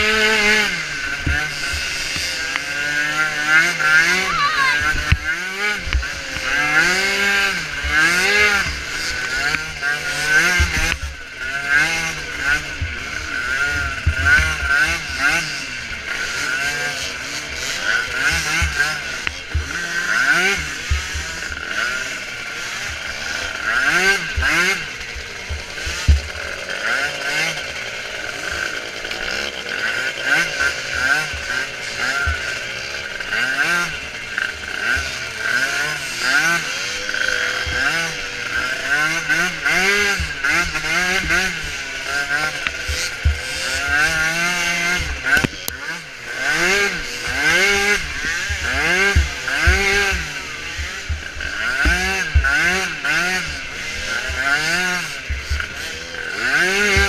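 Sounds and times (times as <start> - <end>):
small atv engines revving: 0.0 - 57.0.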